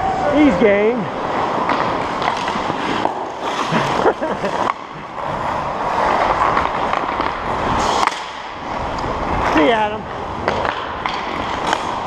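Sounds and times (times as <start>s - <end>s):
skate blades scraping on ice: 0.2s - 12.0s.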